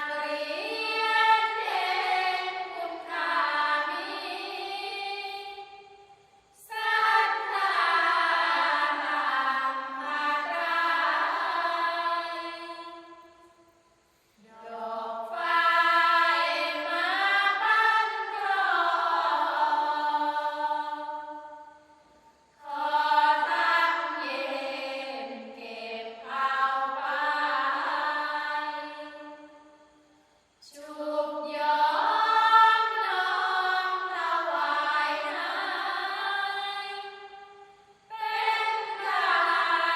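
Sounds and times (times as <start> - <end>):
group chanting unaccompanied: 0.0 - 6.0, 6.6 - 13.2, 14.4 - 21.6, 22.6 - 29.6, 30.7 - 39.9.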